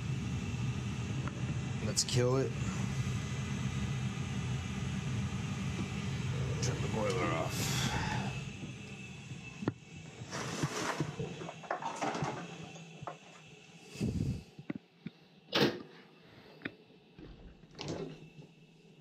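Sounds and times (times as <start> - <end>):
low boiler hum: 0.0 - 19.0.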